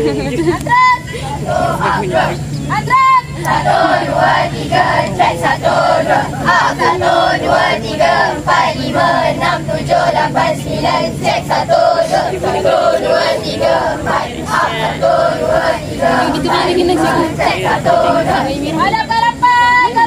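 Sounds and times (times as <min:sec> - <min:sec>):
students chanting in unison: 0:00.7 - 0:20.0.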